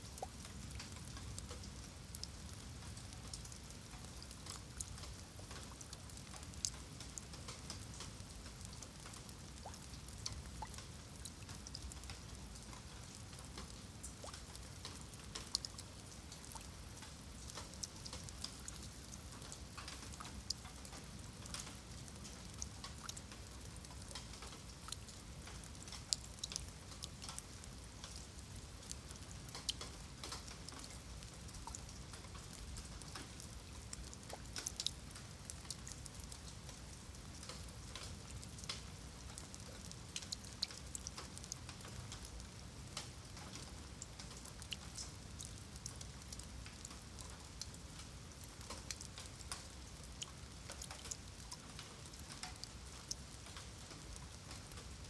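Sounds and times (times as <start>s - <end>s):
rain pattering on stone paving: 0.0s - 55.0s.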